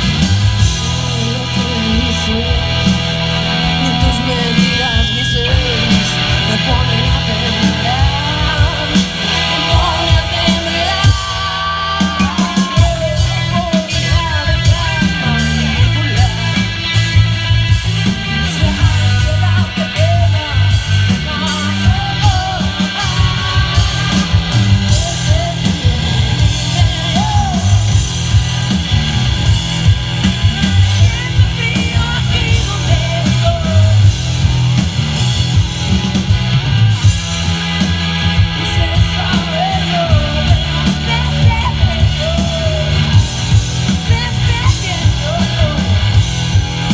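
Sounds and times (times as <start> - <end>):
person singing: 0.0 - 17.1, 18.2 - 28.1, 30.4 - 34.2, 38.4 - 46.3
bass: 0.0 - 46.9
electric guitars: 0.0 - 46.9
loud driving drums: 0.0 - 46.9.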